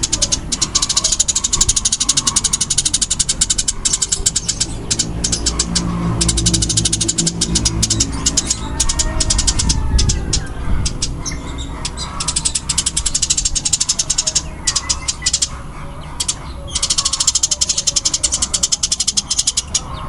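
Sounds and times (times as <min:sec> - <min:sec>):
sparrow chattering call: 0:00.0 - 0:20.0.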